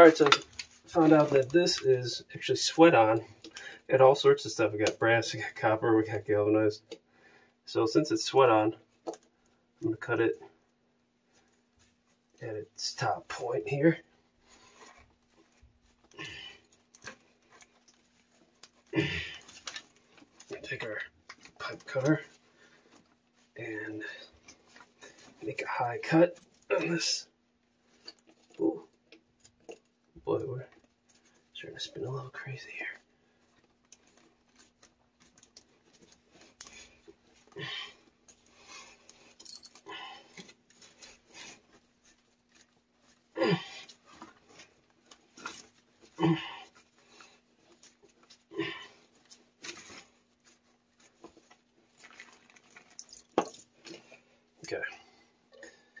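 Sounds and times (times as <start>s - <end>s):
gloved hand rustling: 0.0s - 2.2s, 10.5s - 56.0s.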